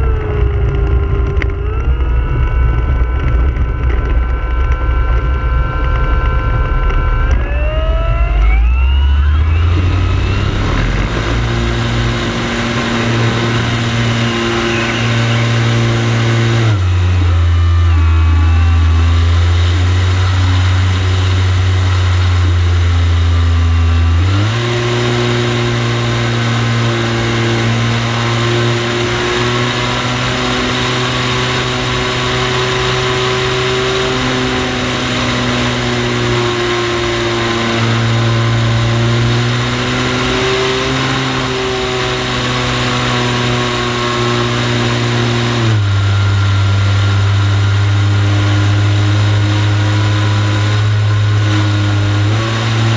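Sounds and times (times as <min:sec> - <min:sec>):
model plane motor droning: 0:00.0 - 0:52.9.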